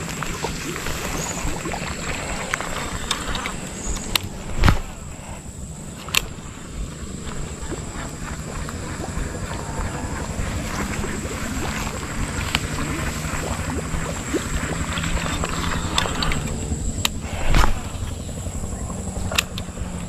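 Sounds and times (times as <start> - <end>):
small boat motor running: 0.0 - 20.0
thin high whine: 0.0 - 20.0.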